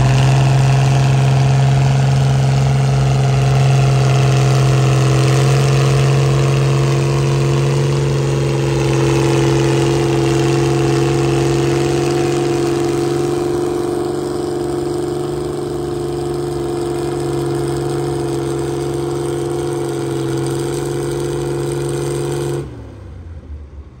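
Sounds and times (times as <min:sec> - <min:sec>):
tractor engine running under load: 0:00.0 - 0:23.4.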